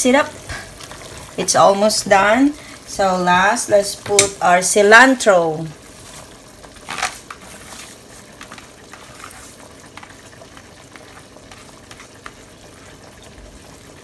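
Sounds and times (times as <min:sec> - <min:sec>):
soup boiling in a pot: 0:00.0 - 0:14.0.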